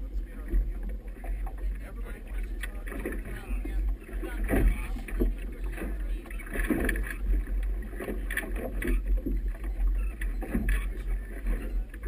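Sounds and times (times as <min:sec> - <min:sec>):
waves slapping against hull: 0:00.0 - 0:12.0.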